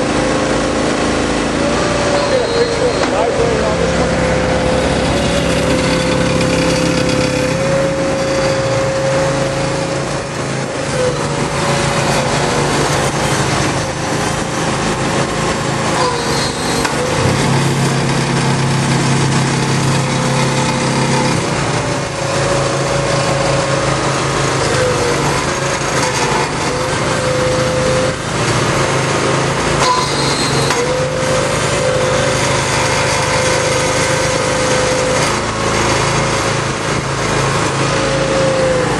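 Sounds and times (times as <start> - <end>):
engine drone with whine: 0.0 - 38.9.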